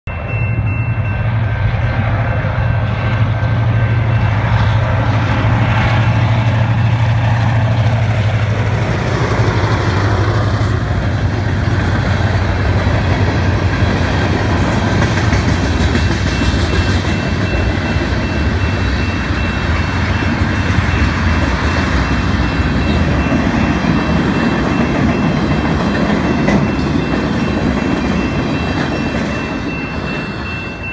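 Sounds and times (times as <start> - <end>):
crossing bell ringing: 0.0 - 30.9
low drone: 0.1 - 30.9
train wheels rumbling on rail: 0.1 - 30.9.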